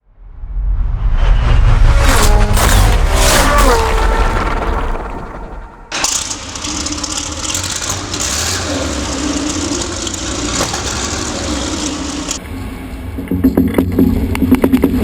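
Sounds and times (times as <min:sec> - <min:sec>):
tank engine rumbling: 0:01.8 - 0:14.3.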